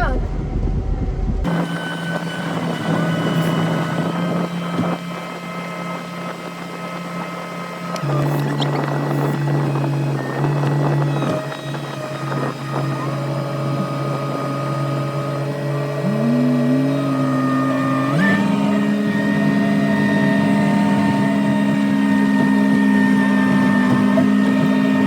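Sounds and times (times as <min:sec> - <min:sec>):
heavy farm machinery engine: 0:00.0 - 0:25.0.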